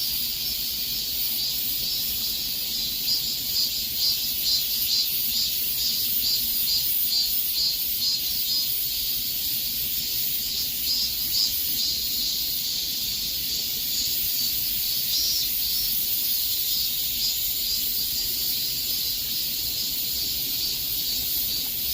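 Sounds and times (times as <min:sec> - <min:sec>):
cicadas buzzing: 0:00.0 - 0:21.9.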